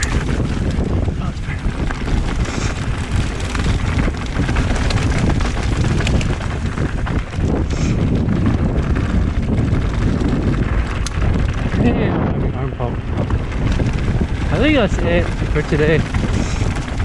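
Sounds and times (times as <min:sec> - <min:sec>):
bike rattling clicks and knocks: 0:00.0 - 0:17.0
low rumble: 0:00.0 - 0:17.0
wind rushing over microphone: 0:00.0 - 0:17.0.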